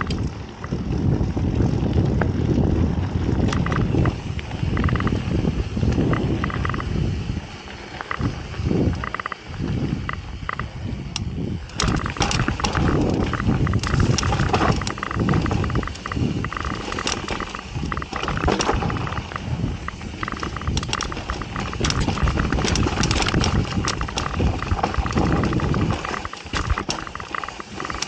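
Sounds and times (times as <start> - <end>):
bike rattling and clicking: 0.0 - 28.0
bike tyres on dirt: 0.0 - 28.0
wind buffeting microphone: 0.0 - 28.0.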